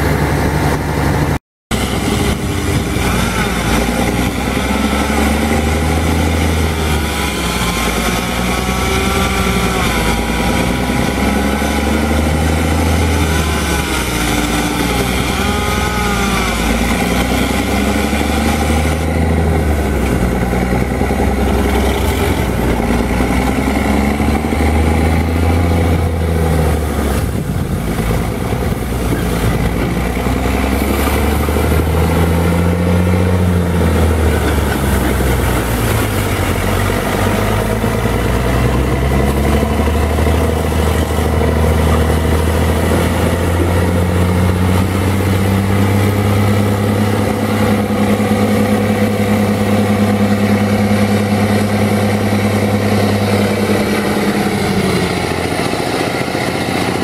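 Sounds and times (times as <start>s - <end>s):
diesel air compressor running: 0.0s - 57.0s.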